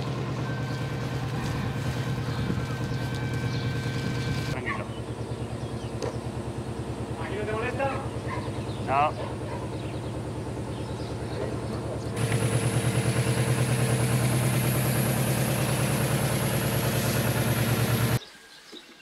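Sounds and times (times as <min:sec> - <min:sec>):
engine running steadily: 0:00.0 - 0:18.2.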